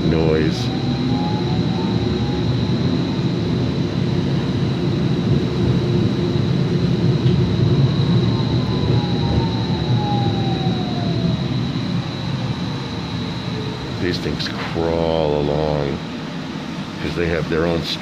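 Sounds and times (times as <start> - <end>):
streetcar low rumble: 0.0 - 18.0.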